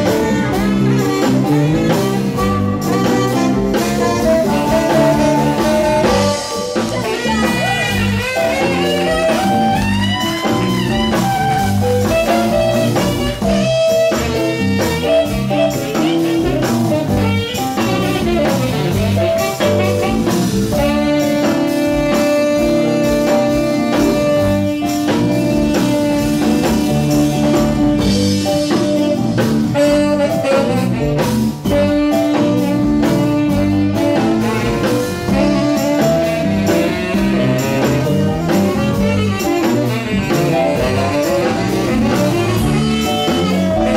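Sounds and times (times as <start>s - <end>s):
blues band playing: 0.0s - 43.9s
saxophones: 0.0s - 43.9s.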